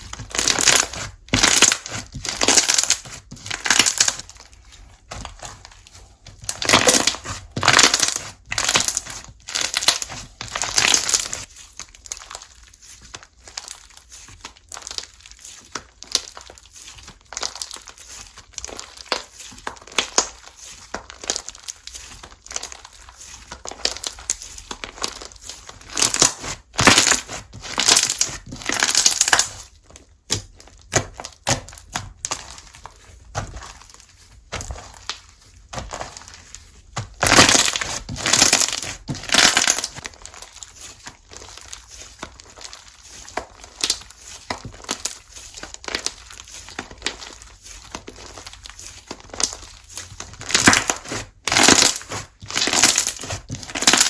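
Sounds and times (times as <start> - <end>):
slime crackling and popping: 0.0 - 54.0.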